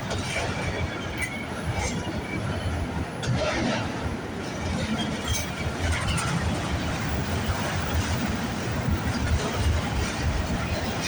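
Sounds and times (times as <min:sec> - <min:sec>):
train cars rumbling on rails: 0:00.0 - 0:11.0.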